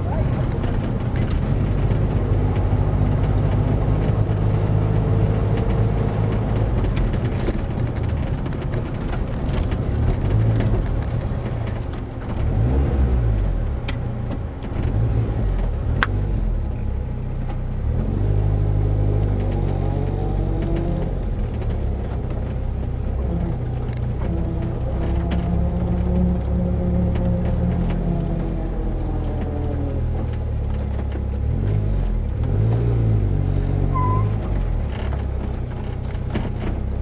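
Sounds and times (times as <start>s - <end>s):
car engine running inside cabin: 0.0s - 37.0s.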